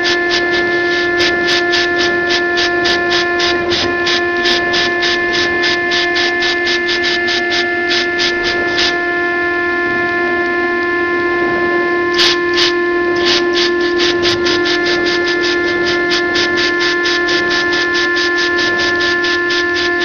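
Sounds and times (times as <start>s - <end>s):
rhythmic hissing bursts: 0.0s - 9.2s, 12.1s - 20.0s
router spindle whine: 0.0s - 20.0s.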